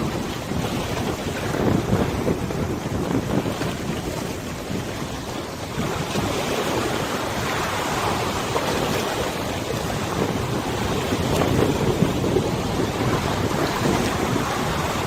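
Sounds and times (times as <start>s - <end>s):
river water lapping: 0.0s - 15.0s
wind buffeting microphone: 0.0s - 15.0s.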